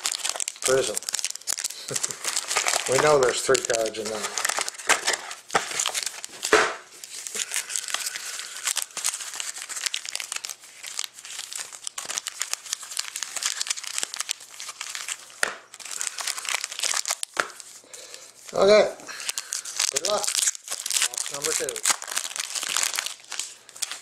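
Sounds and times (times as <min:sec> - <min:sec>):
foil wrappers crinkling: 0:00.0 - 0:24.0.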